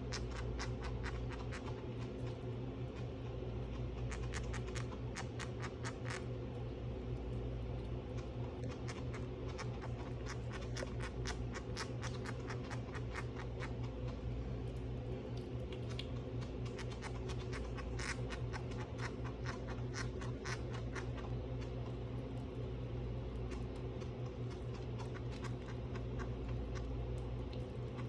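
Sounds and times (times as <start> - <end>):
chinchilla chewing clicks: 0.0 - 28.0.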